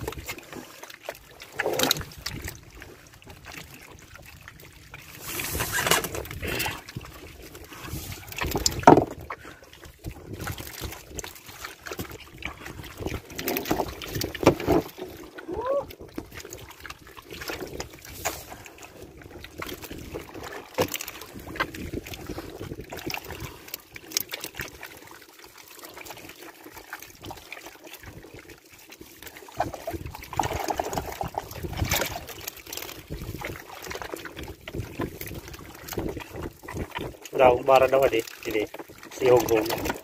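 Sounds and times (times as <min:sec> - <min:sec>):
water trickling and splashing: 0:00.0 - 0:40.0.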